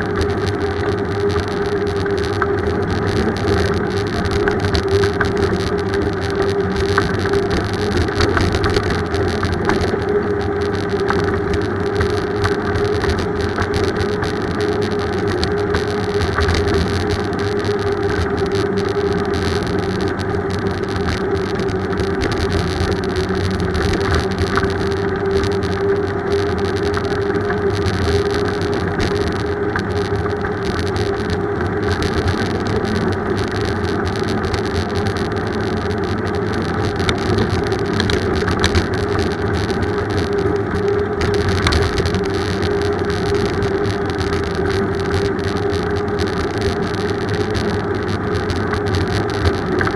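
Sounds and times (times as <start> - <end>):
bicycle road and wind noise: 0.0 - 49.9
constant hum: 0.0 - 49.9.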